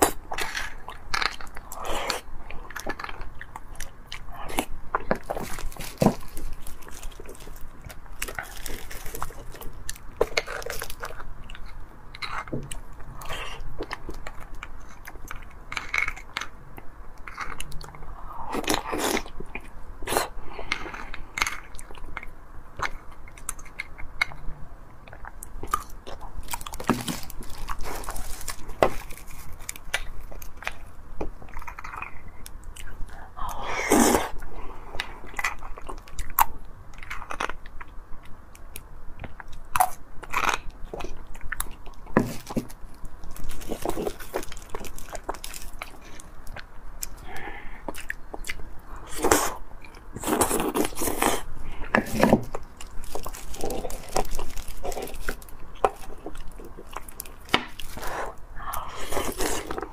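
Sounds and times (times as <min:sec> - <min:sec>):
chewing and mouth sounds: 0:00.0 - 0:59.9.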